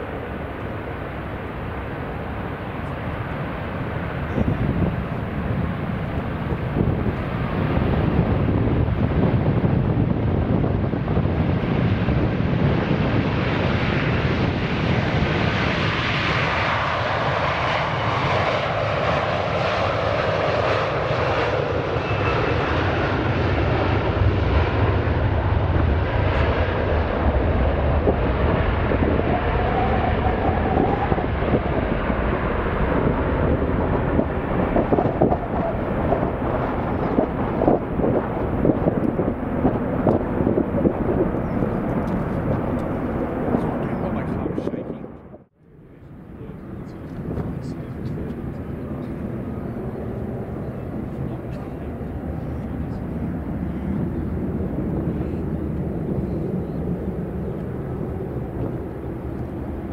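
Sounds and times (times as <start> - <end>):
jet airliner taking off: 0.0 - 59.9.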